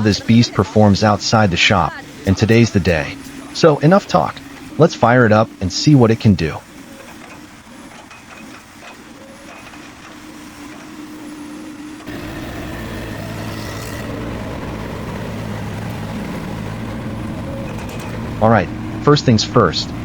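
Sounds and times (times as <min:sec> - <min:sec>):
skid steer engine running: 0:00.0 - 0:20.0.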